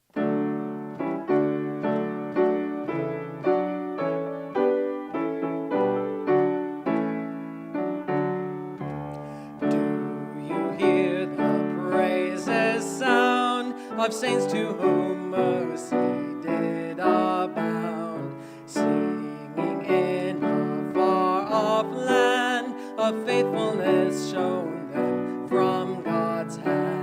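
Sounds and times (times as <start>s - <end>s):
piano playing hymn chords: 0.0s - 27.0s.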